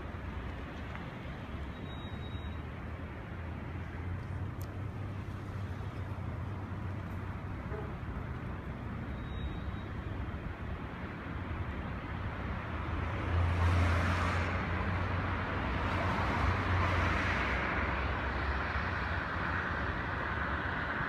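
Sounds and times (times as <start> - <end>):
road vehicle engine rumble: 0.0 - 21.0.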